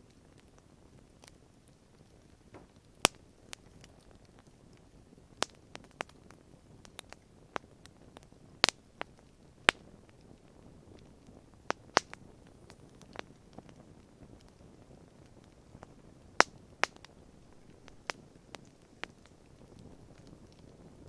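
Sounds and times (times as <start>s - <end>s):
faint steady hiss: 0.0s - 21.0s
wood fire crackling: 0.0s - 21.0s.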